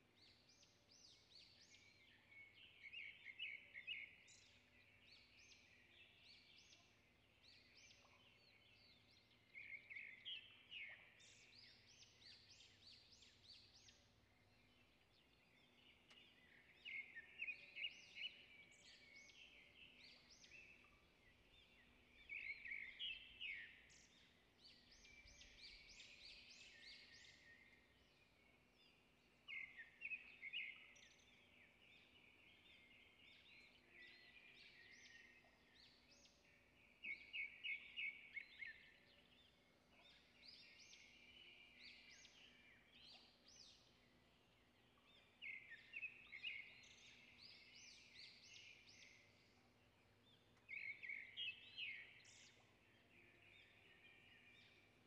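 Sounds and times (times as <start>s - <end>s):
faint rapid bird chirps: 0.0s - 55.0s.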